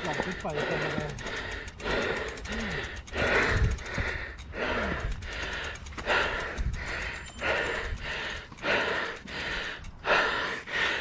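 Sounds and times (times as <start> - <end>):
person panting: 0.0 - 11.0.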